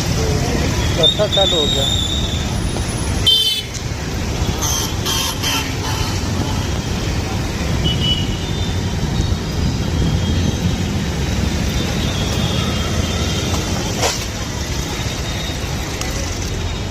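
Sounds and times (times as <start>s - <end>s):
low rumble of vehicles: 0.0s - 16.9s.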